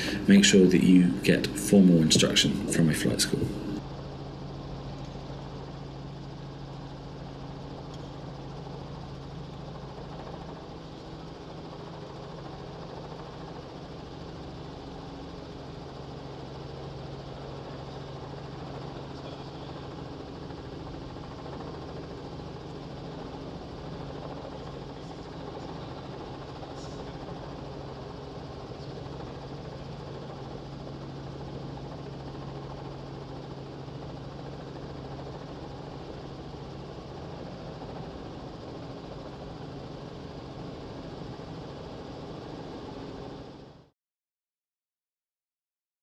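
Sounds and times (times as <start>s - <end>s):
helicopter engine and rotors drone: 0.0s - 43.9s.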